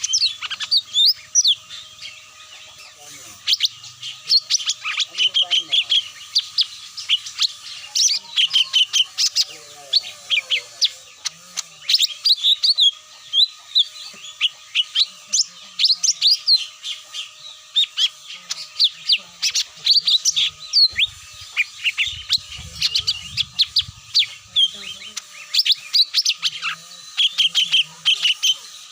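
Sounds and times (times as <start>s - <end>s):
bird chirps and whistles: 0.0s - 2.4s, 3.4s - 28.9s.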